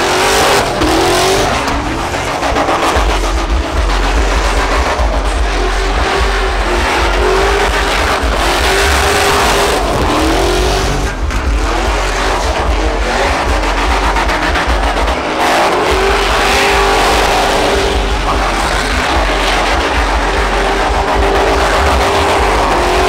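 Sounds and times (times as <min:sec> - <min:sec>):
tires spinning on pavement: 0:00.0 - 0:23.0
truck engines revving hard: 0:00.0 - 0:23.0.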